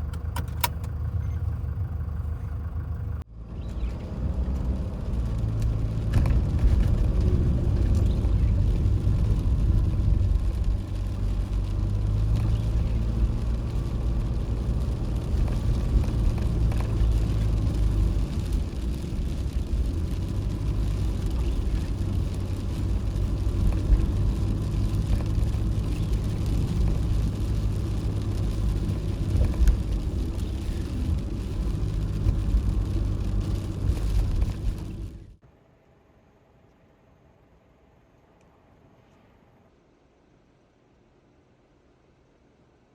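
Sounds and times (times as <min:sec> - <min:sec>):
road rumble: 0:00.0 - 0:42.9
van engine hum: 0:00.0 - 0:42.9.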